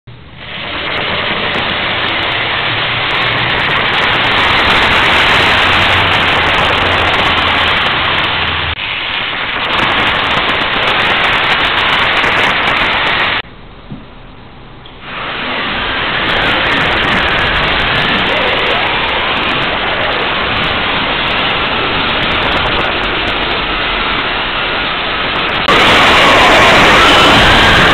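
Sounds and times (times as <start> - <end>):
model train on metal track: 0.4 - 27.9.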